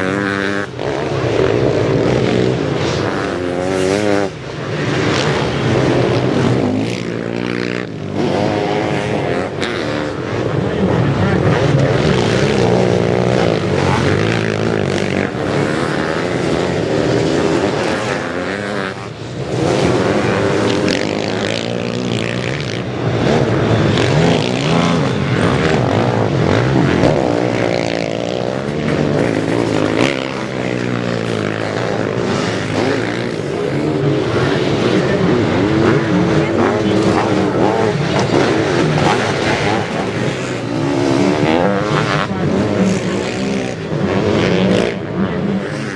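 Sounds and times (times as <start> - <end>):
racing engines revving: 0.0 - 45.9.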